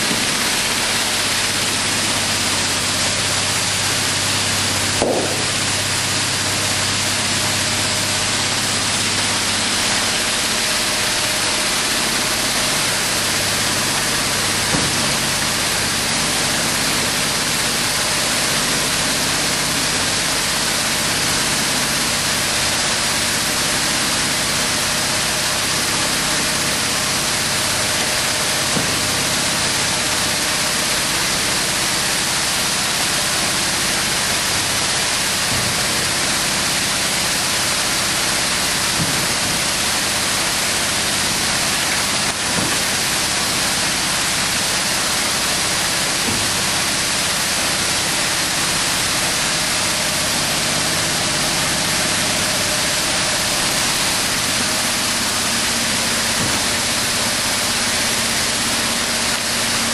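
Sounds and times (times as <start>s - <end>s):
packaging machine hissing: 0.0s - 59.9s.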